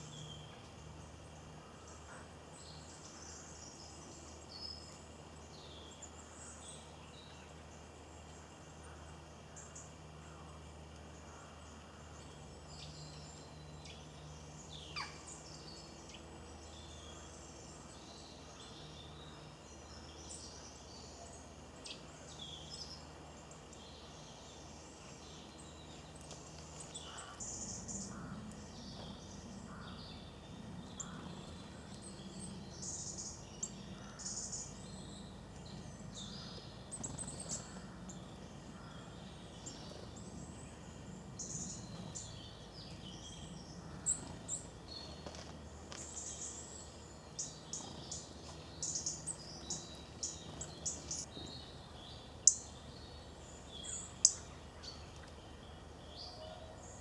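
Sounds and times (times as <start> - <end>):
low outdoor rumble: 0.0 - 57.0
small birds chirping: 0.0 - 57.0.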